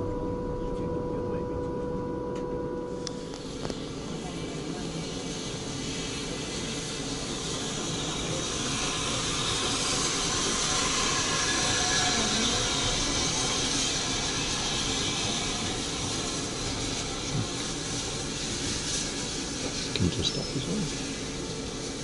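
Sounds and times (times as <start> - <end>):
steam locomotive hissing: 3.5 - 22.0.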